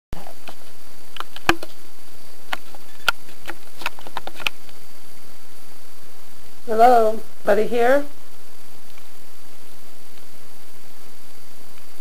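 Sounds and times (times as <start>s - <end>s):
steady hiss: 0.2s - 12.0s.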